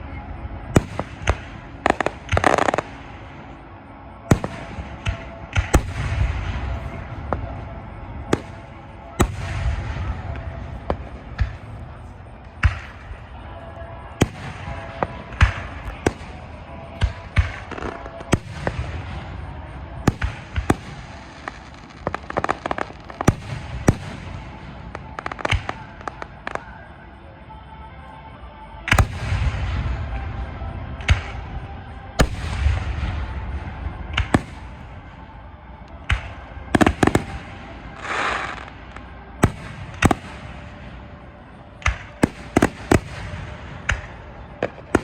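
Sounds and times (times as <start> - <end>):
deep rumbling fireworks booms: 0.0 - 26.7, 28.9 - 45.0
fireworks sharp bangs: 0.0 - 27.0, 28.8 - 45.0.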